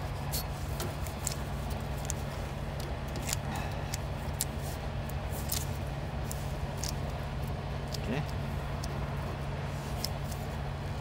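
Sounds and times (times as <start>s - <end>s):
crinkles and clicks from hands: 0.0s - 10.7s.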